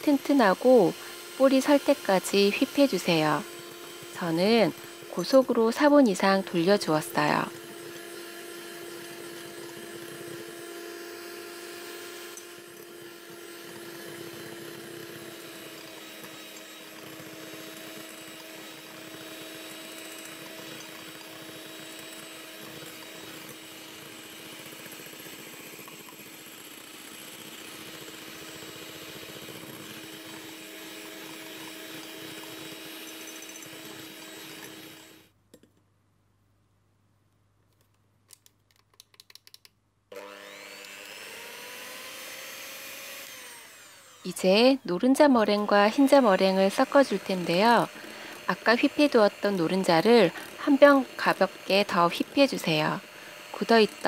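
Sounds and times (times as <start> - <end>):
electric hand mixer running: 0.0 - 35.3, 40.1 - 54.0.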